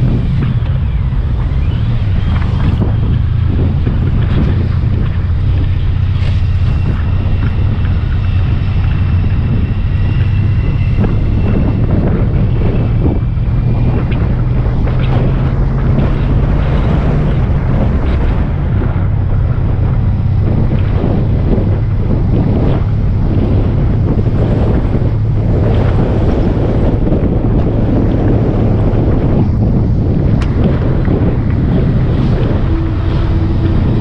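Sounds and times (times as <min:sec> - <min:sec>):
motorcycle engine running: 0:00.0 - 0:34.0
wind rushing over microphone: 0:00.0 - 0:34.0.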